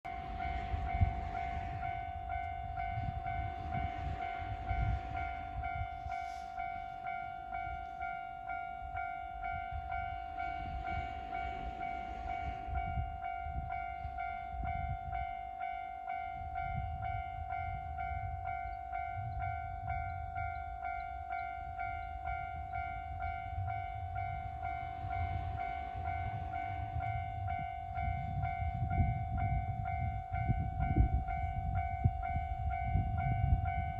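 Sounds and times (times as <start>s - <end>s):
train rumbling past: 0.0s - 33.9s
level crossing warning bell ringing: 0.1s - 33.9s.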